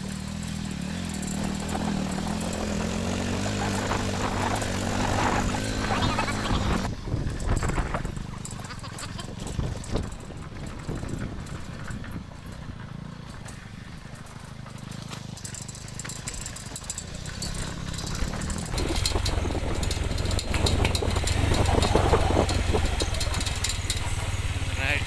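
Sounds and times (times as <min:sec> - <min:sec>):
motorcycle engine running: 0:00.0 - 0:25.0
rattles and knocks from bumps: 0:01.0 - 0:25.0.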